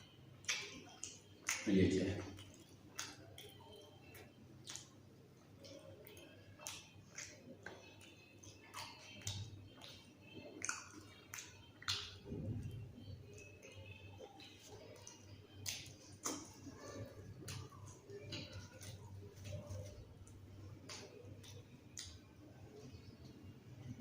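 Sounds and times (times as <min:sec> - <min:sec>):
lip and tongue clicks: 0:00.4 - 0:22.3
person chewing with mouth smacks: 0:00.4 - 0:23.4.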